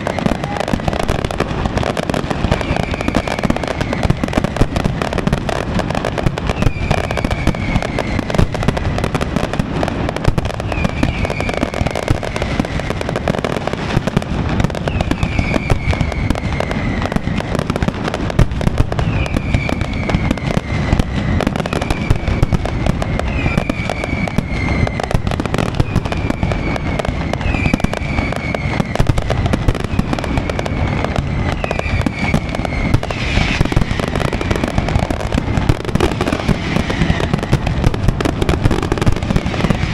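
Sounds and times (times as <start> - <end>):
falling fireworks whistles: 0.0 - 39.9
fireworks bangs and crackling: 0.0 - 39.9.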